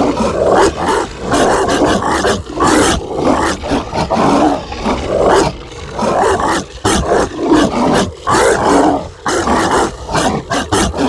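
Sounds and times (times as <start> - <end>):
dog snarling barks and growls: 0.0 - 11.0.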